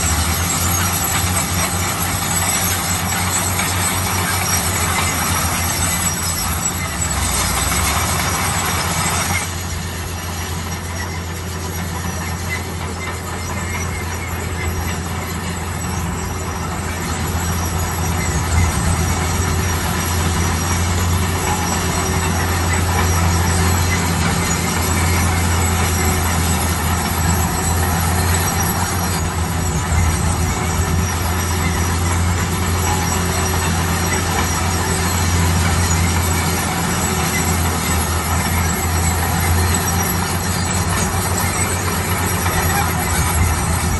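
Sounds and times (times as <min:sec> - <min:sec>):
construction machine engine running: 0:00.0 - 0:43.9.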